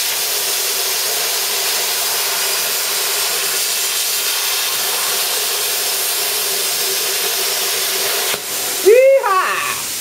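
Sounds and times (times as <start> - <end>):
plasma torch arc hissing: 0.0 - 10.0.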